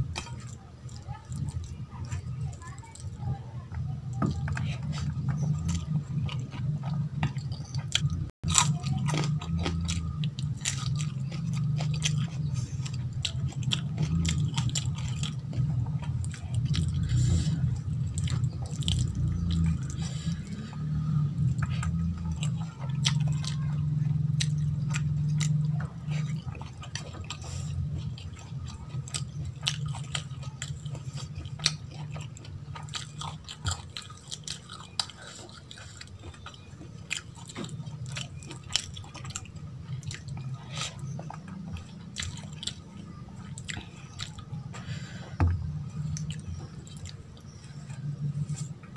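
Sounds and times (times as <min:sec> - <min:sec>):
close chewing with wet clicks: 0:00.0 - 0:48.9
steady low hum: 0:00.0 - 0:48.9.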